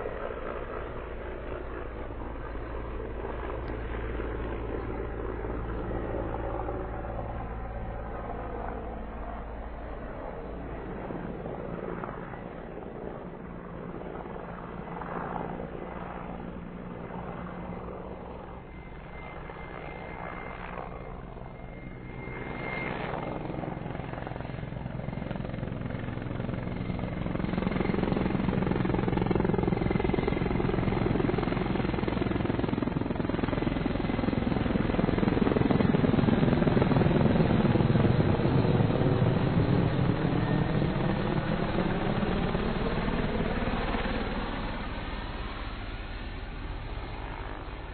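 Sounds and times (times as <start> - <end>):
helicopter rotor chopping: 0.0 - 47.9.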